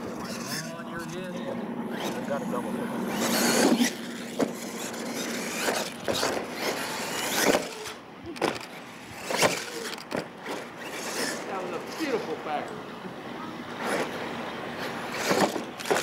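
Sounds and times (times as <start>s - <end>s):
toy truck motor whining: 0.0s - 1.2s, 1.9s - 12.4s, 13.8s - 16.0s.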